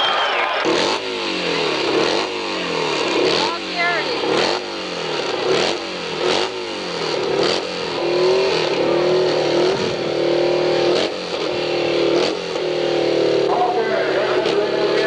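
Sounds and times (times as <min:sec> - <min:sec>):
motorcycle engine revving: 0:00.5 - 0:15.0.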